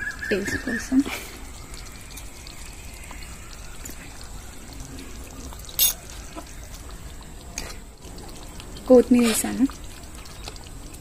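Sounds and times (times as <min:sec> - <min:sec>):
gravy simmering bubbling: 0:00.0 - 0:11.0.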